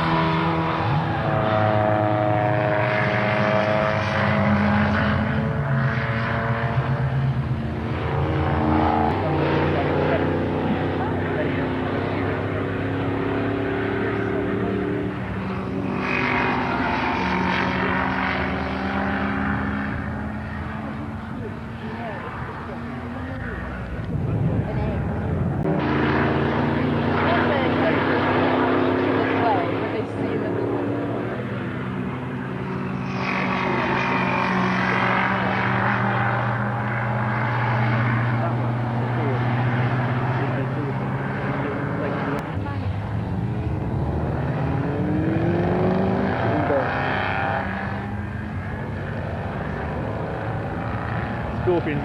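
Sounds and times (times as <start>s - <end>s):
broad rush of noise: 0.0s - 52.0s
racing engines: 0.0s - 52.0s
vehicle passing by: 0.0s - 52.0s.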